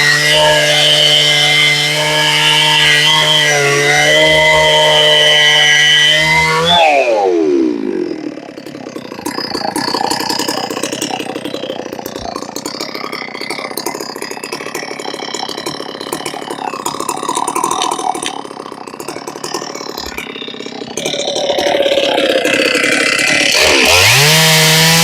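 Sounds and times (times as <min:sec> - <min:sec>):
chainsaw running at low revs: 0:00.0 - 0:25.0.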